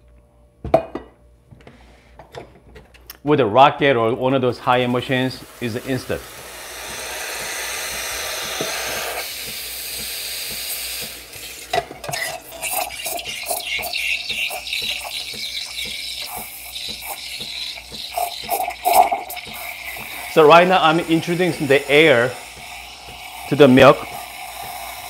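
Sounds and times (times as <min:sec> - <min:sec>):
milk frothing crackling hiss: 0:04.6 - 0:25.0
steam wand hissing: 0:04.6 - 0:25.0.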